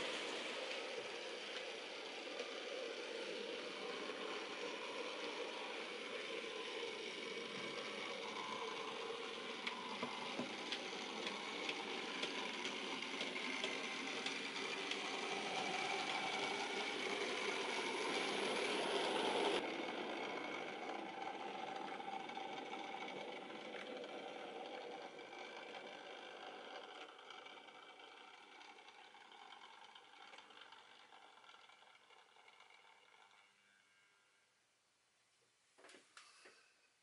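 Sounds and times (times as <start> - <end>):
model train motor whirring: 0.0 - 34.4.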